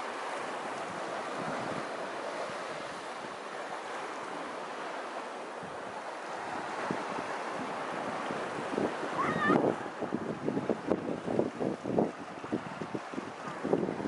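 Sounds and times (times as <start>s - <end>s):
waves washing up a beach: 0.0s - 14.0s
wind buffeting the microphone: 0.1s - 14.0s.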